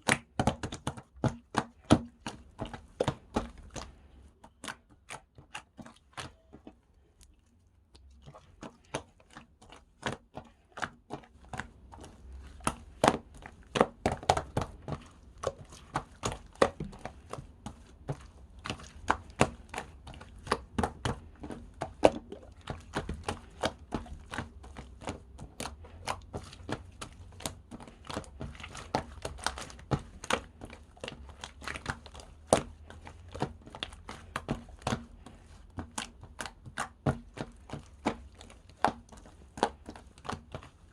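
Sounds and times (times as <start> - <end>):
slime squished by hand: 0.0 - 40.9.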